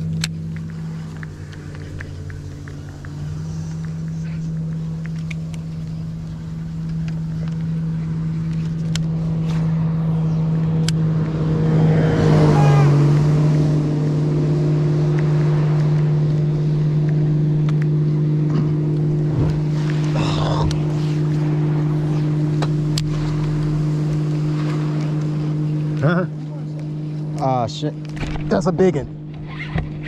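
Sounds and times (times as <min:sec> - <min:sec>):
boat outboard motor passing: 0:00.0 - 0:30.0.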